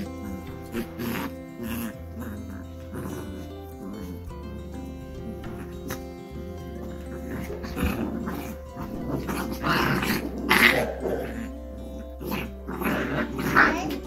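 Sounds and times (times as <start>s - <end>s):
background music: 0.0s - 14.0s
puppies growling: 0.0s - 14.0s.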